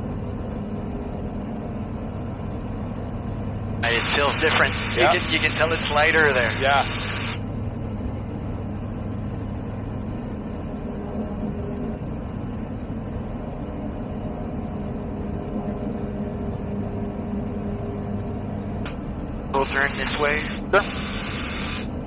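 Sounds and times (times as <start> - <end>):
aircraft engine and propeller droning: 0.0 - 22.0.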